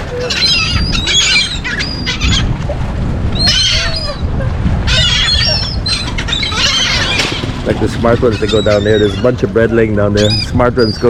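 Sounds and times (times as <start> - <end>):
low steady rumble: 0.0 - 10.5
seagulls squawking: 0.0 - 11.0.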